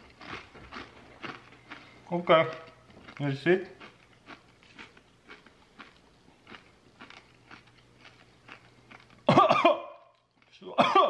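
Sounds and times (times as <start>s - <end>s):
chip crunching while chewing: 0.0s - 9.3s, 10.0s - 10.8s.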